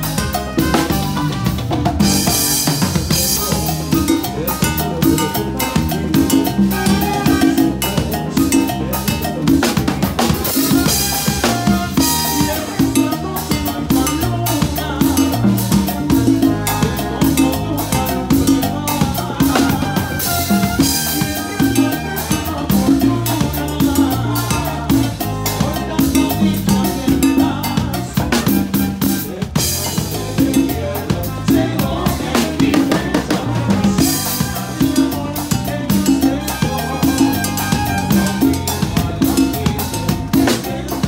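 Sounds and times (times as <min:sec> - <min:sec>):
live band music: 0:00.0 - 0:41.0.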